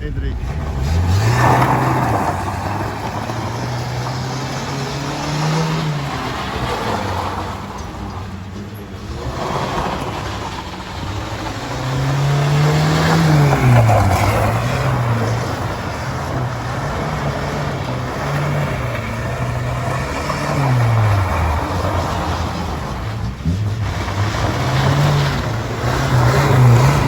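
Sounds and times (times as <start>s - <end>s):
car engine revving: 0.0s - 27.0s
road and tyre noise: 0.0s - 27.0s.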